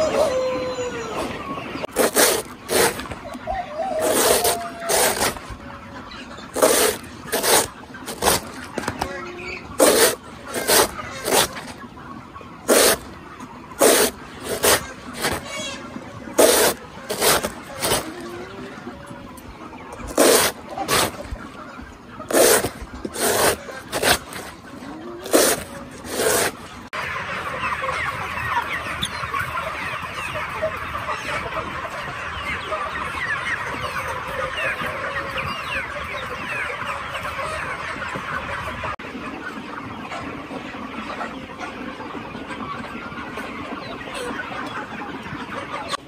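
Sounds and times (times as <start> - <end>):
chicks clucking and cheeping: 0.0 - 46.0.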